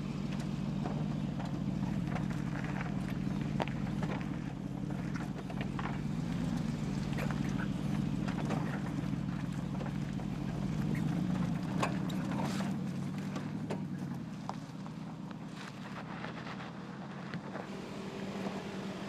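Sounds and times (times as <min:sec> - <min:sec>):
engine running at low revs: 0:00.0 - 0:19.0
tyres crunching on stones: 0:00.1 - 0:18.7.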